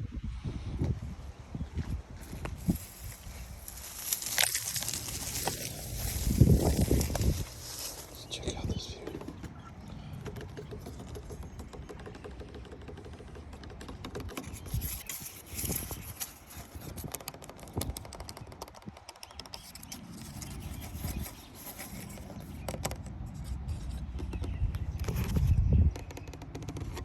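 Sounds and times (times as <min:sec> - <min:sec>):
wind rumble on microphone: 0:00.0 - 0:12.2, 0:13.9 - 0:27.0
crackling and rustling clicks: 0:02.6 - 0:08.2, 0:10.2 - 0:27.0.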